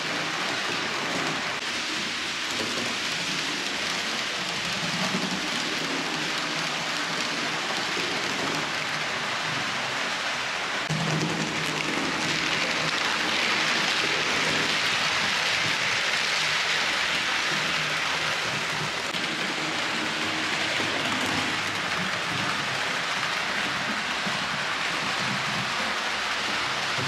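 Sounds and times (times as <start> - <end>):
model train wheels rolling on rails: 0.0 - 27.0.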